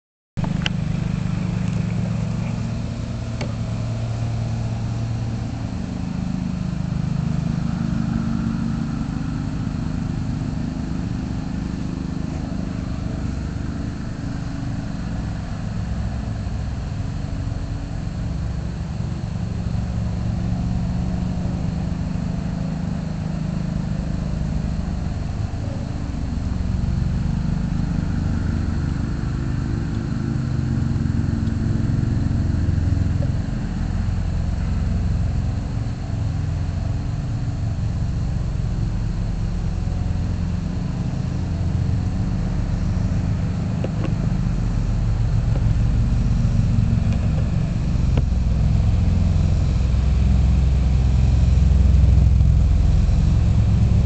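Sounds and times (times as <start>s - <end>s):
riding lawnmower engine running: 0.4s - 54.0s.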